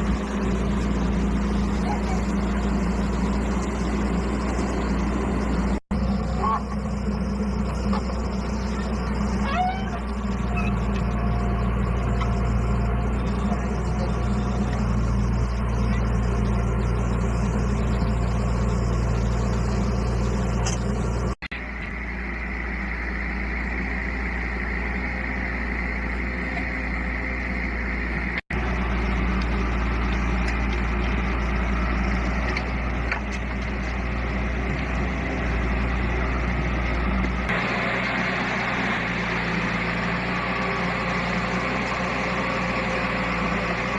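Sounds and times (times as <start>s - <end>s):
heavy diesel engine humming: 0.0s - 43.9s.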